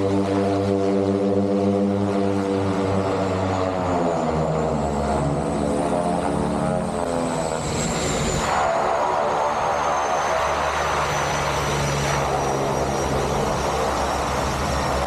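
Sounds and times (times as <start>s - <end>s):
turboprop engines droning: 0.0s - 15.0s
faint high whine: 2.8s - 15.0s.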